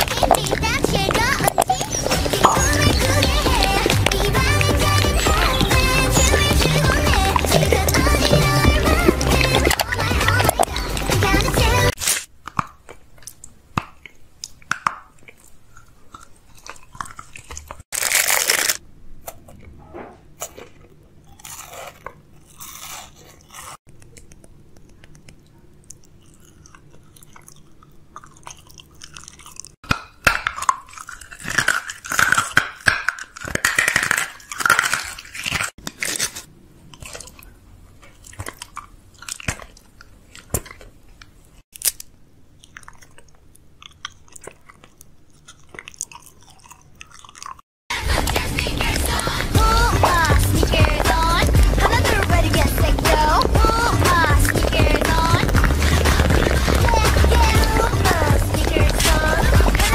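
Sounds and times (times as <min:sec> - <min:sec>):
person eating crunchy food: 0:00.0 - 0:19.7, 0:20.3 - 0:59.9.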